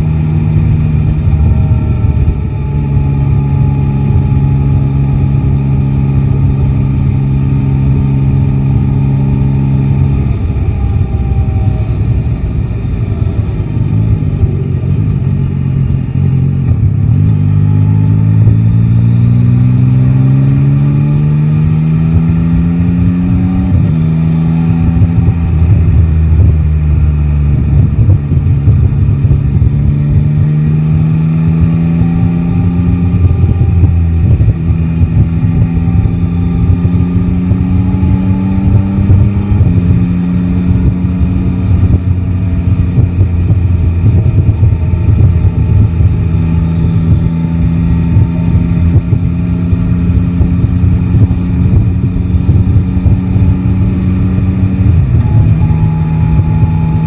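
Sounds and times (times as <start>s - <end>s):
motorcycle engine accelerating: 0.0s - 57.0s
wind and road rumble: 0.0s - 57.0s.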